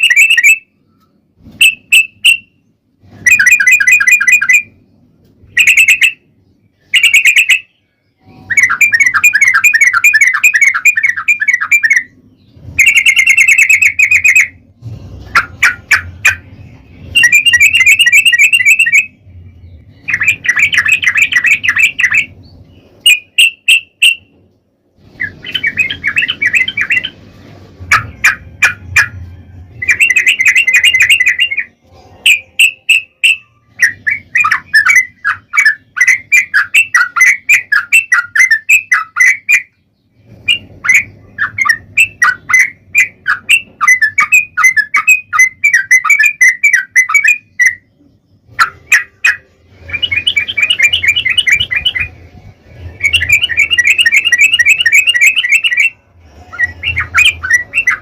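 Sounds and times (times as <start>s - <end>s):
bulbul chattering song: 0.0s - 24.4s, 25.0s - 58.0s.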